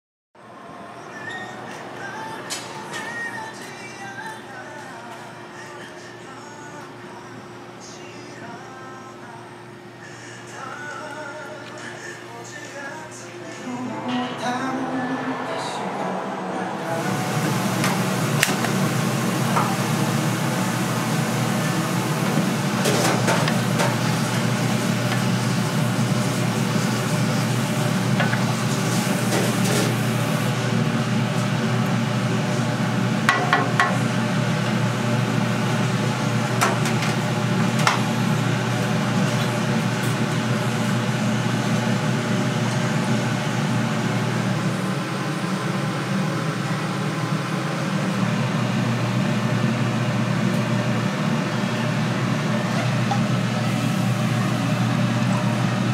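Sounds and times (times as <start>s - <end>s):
low fan-like hum: 0.4s - 55.9s.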